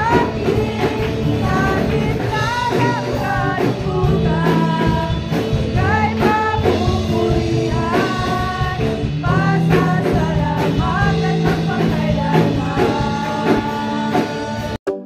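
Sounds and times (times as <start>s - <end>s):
woman singing through microphone: 0.0s - 14.8s.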